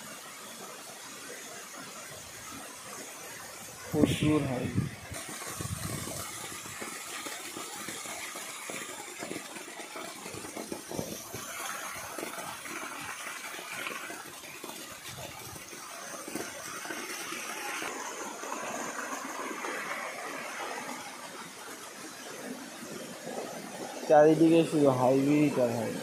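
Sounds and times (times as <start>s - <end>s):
water jetting into tank: 0.0s - 26.0s.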